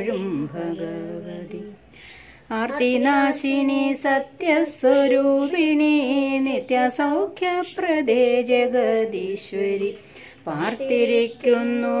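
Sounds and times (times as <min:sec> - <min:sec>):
woman singing a chant: 0:00.0 - 0:12.0.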